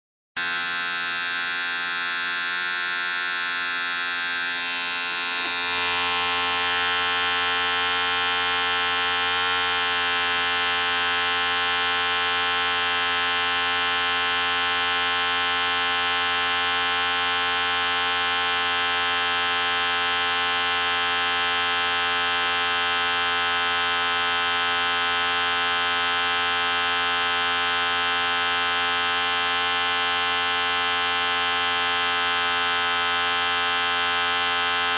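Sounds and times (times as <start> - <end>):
electric hair clipper running: 0.4 - 34.9.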